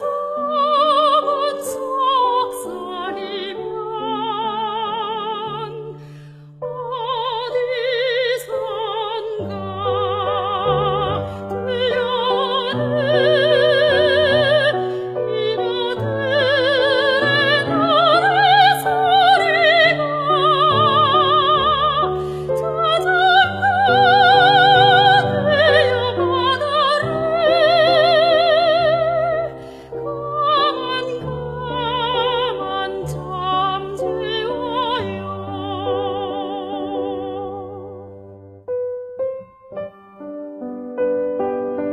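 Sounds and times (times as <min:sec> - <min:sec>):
woman singing with vibrato: 0:00.0 - 0:06.0, 0:06.7 - 0:38.0.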